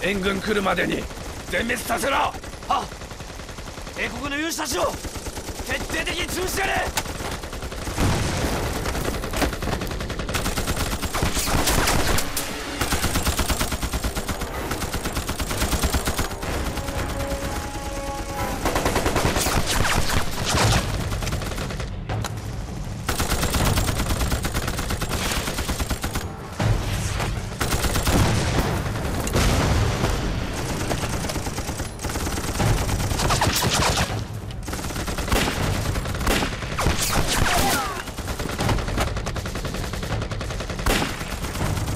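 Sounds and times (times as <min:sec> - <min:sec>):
rifle and machine-gun fire: 0:00.0 - 0:22.1, 0:23.0 - 0:26.4, 0:27.5 - 0:41.9.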